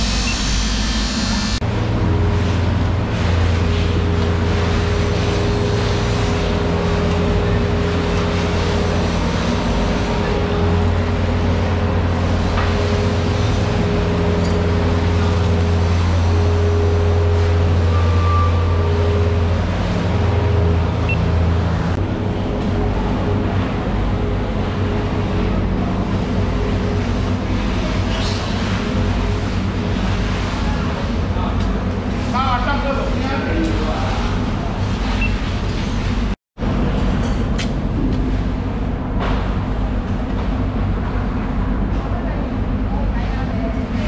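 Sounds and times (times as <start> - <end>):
machinery droning: 0.0 - 44.0.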